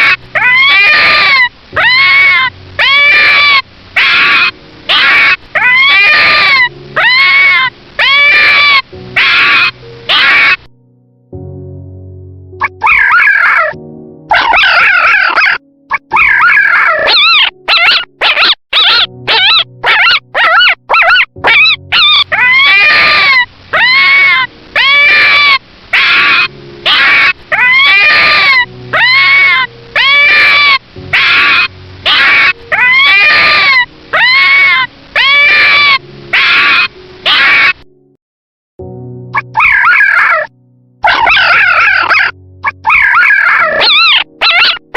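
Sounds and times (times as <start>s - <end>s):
young animal crying: 0.0s - 10.7s, 12.6s - 37.8s, 39.4s - 44.9s
faint background music: 0.0s - 37.9s, 39.3s - 44.9s.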